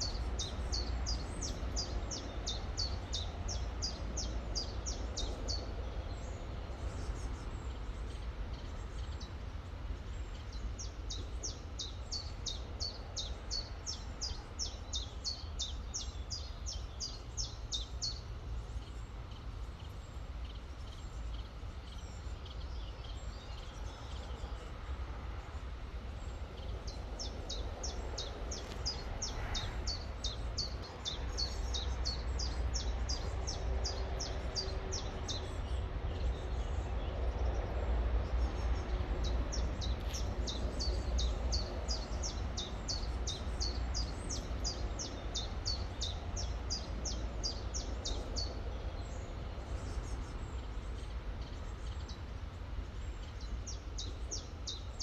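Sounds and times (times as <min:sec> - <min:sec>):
songbird chirping: 0:10.2 - 0:55.0.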